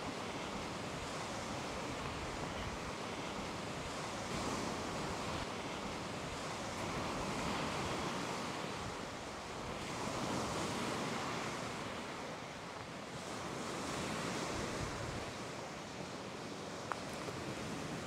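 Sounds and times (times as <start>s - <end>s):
waves washing onto shore: 0.0s - 18.0s
wind: 0.0s - 18.0s.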